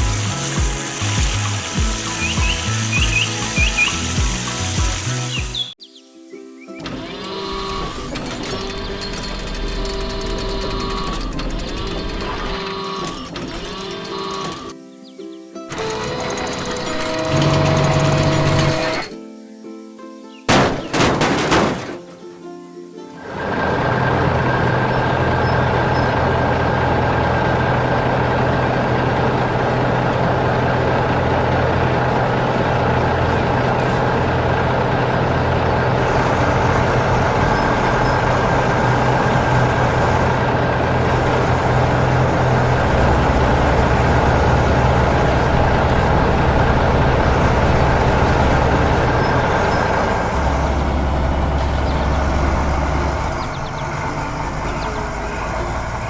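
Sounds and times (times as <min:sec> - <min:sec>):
heavy vehicle engine running: 0:00.0 - 0:05.8, 0:06.8 - 0:14.7, 0:15.7 - 0:19.2, 0:20.5 - 0:21.9, 0:23.2 - 0:56.0.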